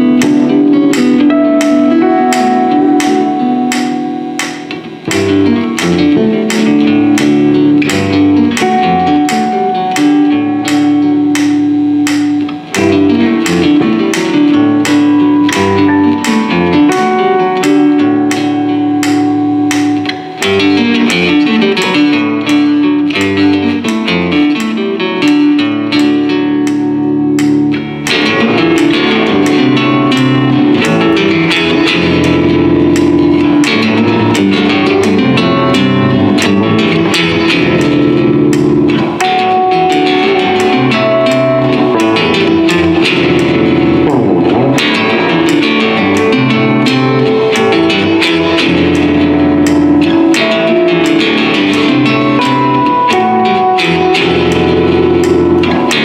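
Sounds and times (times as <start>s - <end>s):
plucked string instrumental music: 0.0s - 56.0s.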